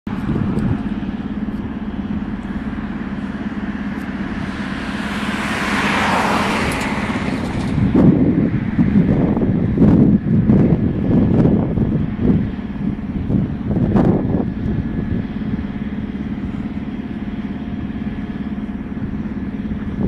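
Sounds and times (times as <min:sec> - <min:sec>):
diesel locomotive engine drone: 0:00.0 - 0:20.0
low rumbles: 0:00.0 - 0:20.0
rushing noise: 0:00.1 - 0:16.6.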